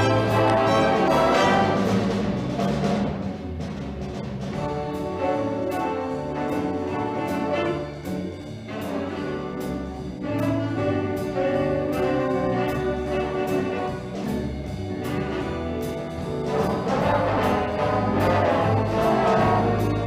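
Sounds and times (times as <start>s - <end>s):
brass swing music: 0.0s - 20.0s.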